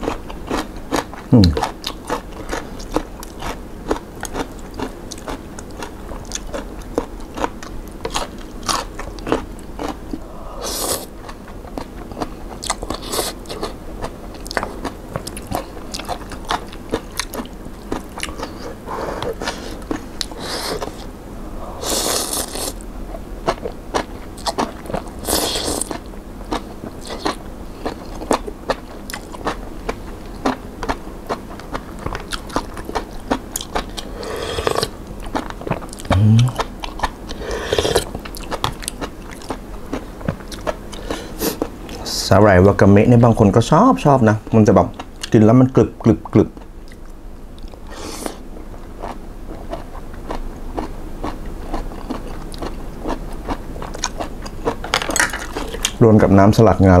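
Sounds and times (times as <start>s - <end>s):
person chewing crunchy food: 0.0s - 42.3s, 46.3s - 56.0s.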